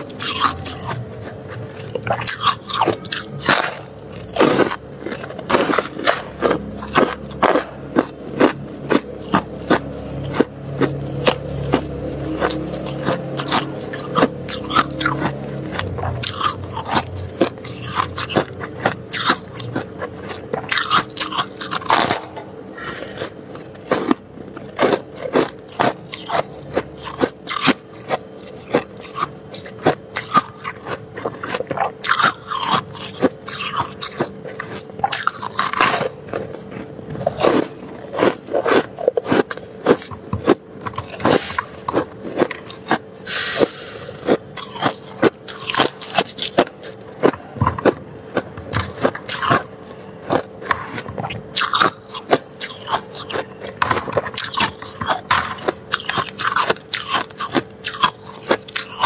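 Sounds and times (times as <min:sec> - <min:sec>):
frost being chewed crunching: 0:00.0 - 0:59.0.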